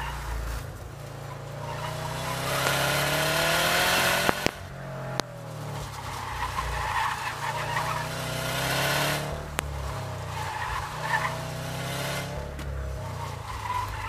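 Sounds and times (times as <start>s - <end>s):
car engine under load: 0.0s - 14.0s
tires squealing: 0.0s - 14.0s.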